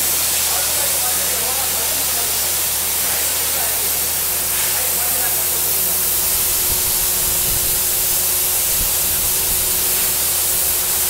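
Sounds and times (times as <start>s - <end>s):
compressed air rushing hiss: 0.0s - 11.0s.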